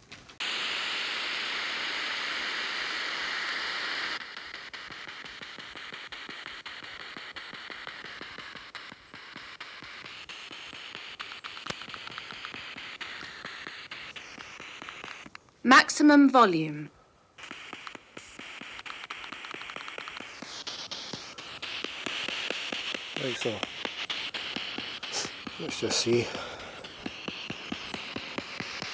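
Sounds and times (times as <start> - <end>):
rapid clicks: 0.1 - 15.6, 17.4 - 28.9
radio static hiss: 0.4 - 28.9.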